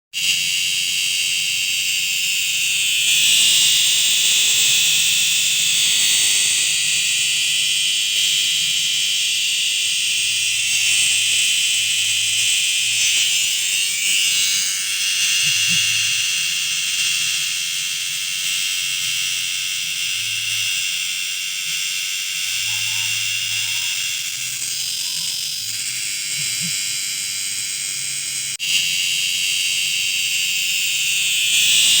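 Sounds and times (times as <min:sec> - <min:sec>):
cicada buzzing: 0:00.5 - 0:17.7, 0:20.2 - 0:27.8, 0:28.4 - 0:32.0.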